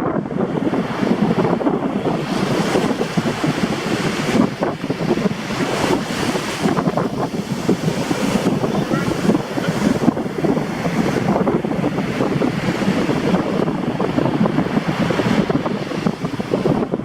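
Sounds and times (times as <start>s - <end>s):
surf breaking on shore: 0.0s - 17.0s
wind buffeting microphone: 0.0s - 17.0s.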